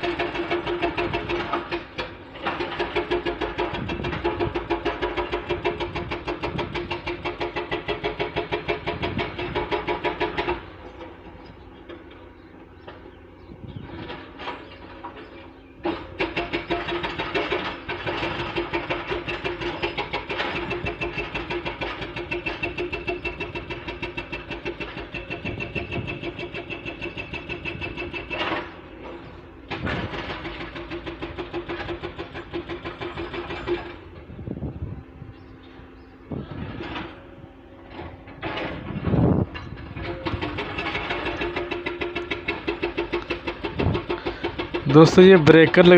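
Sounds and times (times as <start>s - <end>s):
hydraulic breaker hammering rock: 0.0s - 34.8s, 36.3s - 45.9s
diesel engine running: 0.0s - 45.9s.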